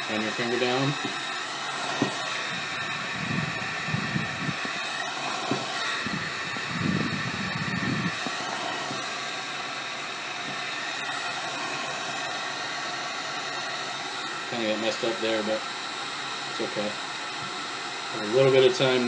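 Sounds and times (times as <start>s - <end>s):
heat gun blowing: 0.0s - 19.0s.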